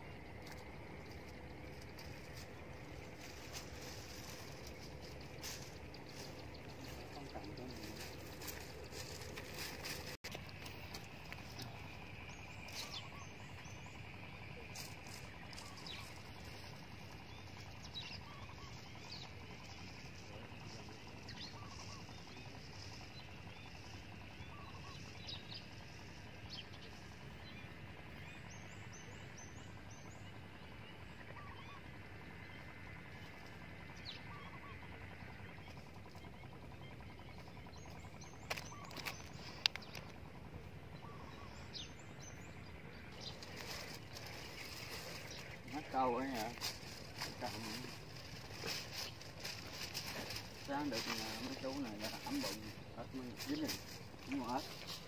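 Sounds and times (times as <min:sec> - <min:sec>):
faint bird chirps: 0:00.0 - 0:55.0.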